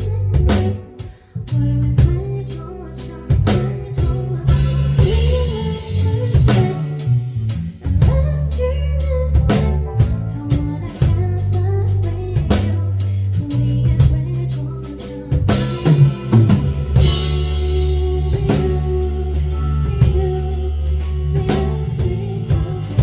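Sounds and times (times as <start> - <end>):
person singing: 0.0 - 7.2, 7.9 - 23.0
bass guitar: 0.0 - 23.0
drum kit beat: 0.0 - 23.0
guitar: 0.0 - 23.0.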